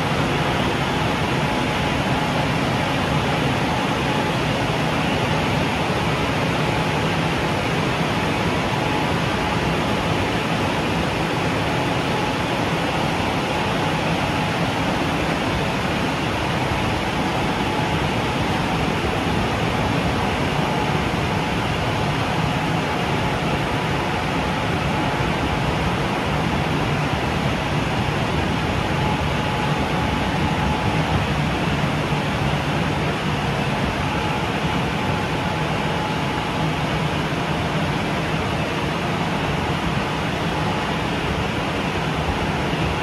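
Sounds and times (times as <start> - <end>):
drying blowers rushing air: 0.0 - 43.0.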